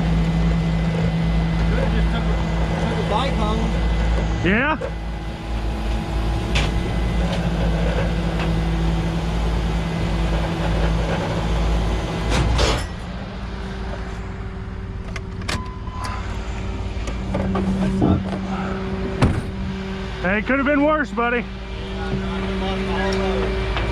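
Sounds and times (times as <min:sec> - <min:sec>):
engine idle hum: 0:00.0 - 0:23.9
tow truck engine drone: 0:00.0 - 0:23.9.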